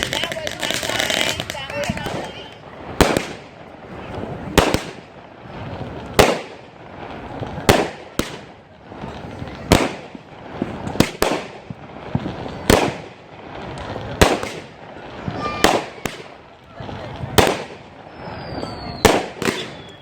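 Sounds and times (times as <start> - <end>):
firework bangs: 0.0 - 20.0
hissing crackle: 0.0 - 20.0.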